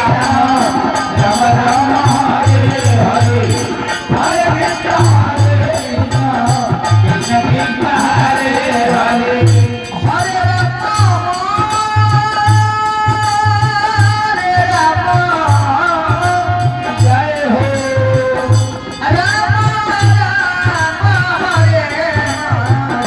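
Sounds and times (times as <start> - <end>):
low repeating drum beat: 0.0 - 23.0
person singing devotional music: 0.0 - 23.0.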